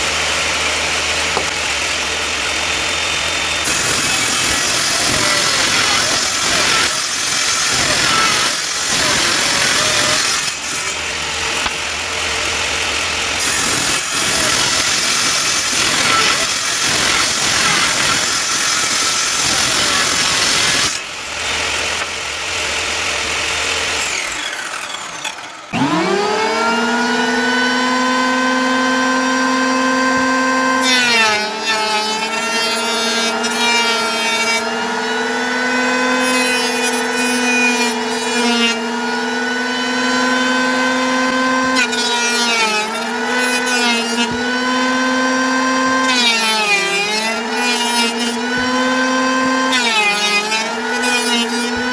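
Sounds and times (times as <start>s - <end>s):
power tool motor whine: 0.0s - 51.9s
scratchy cutting bursts: 0.0s - 51.9s.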